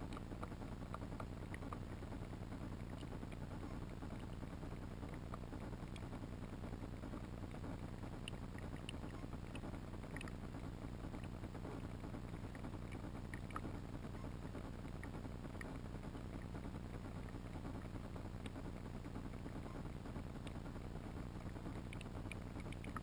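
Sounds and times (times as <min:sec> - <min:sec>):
faint ticks: 0:00.0 - 0:23.0
underwater water noise: 0:00.0 - 0:23.0.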